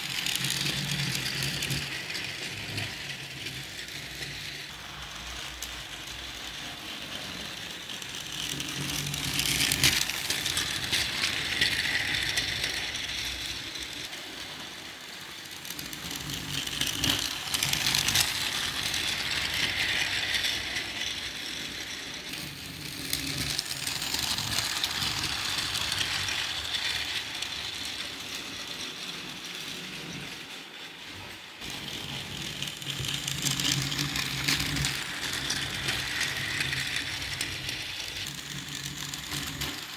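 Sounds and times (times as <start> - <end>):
toy train clattering on track: 0.0 - 39.9.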